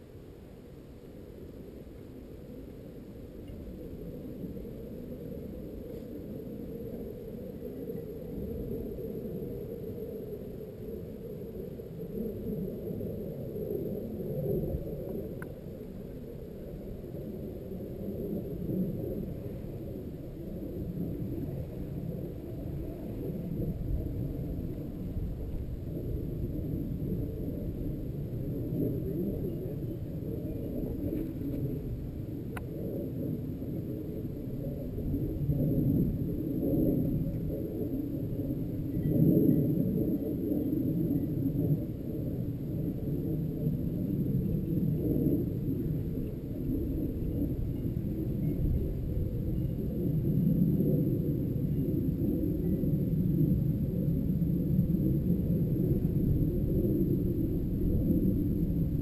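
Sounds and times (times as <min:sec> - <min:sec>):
wind buffeting microphone: 0:03.3 - 0:59.0.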